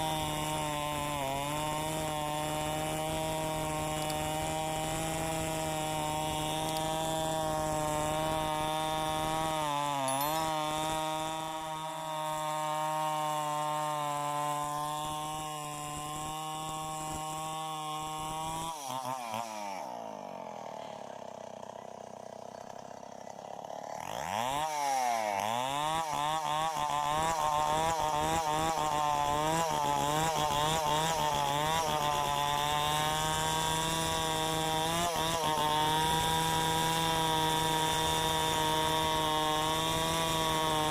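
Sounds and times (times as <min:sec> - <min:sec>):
chainsaw milling wood: 0:00.0 - 0:40.9.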